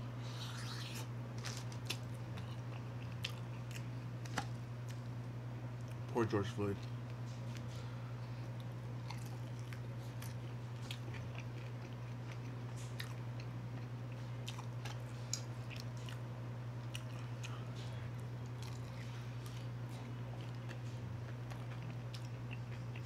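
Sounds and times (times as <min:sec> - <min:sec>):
steady low hum: 0:00.0 - 0:23.0
chewing and mouth smacks: 0:00.4 - 0:05.0, 0:08.5 - 0:23.0.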